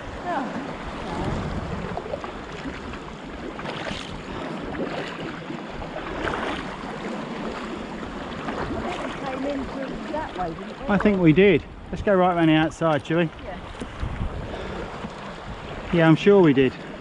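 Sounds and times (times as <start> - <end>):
water lapping around kayak: 0.0 - 17.0.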